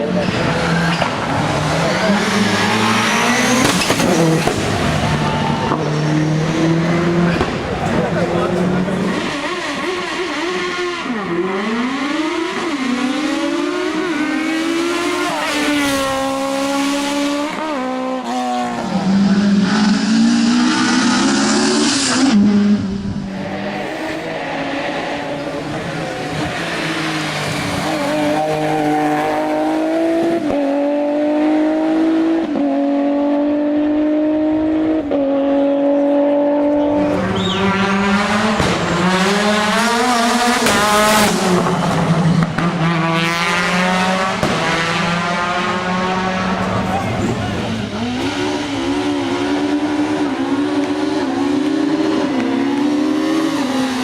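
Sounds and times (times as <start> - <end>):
racing car engines at full throttle: 0.0 - 54.0.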